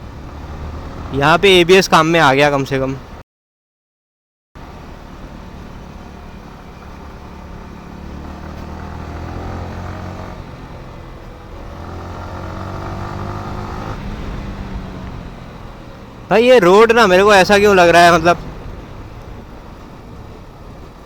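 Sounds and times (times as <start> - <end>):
motorcycle engine accelerating: 0.0 - 1.6, 4.6 - 20.9.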